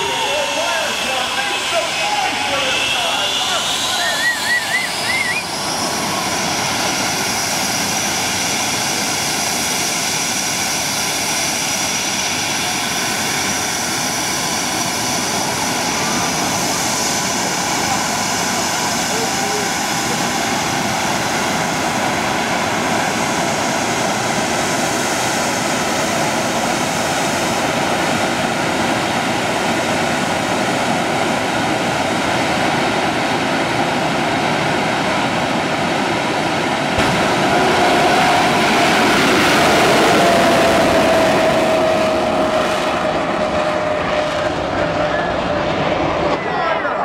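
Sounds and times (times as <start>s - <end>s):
jet engines rushing and whining: 0.0s - 47.0s.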